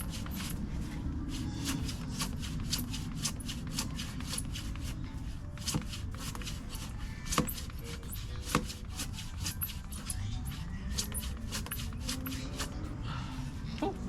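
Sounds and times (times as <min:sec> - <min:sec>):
hand saw rasping through wood: 0:00.0 - 0:12.8.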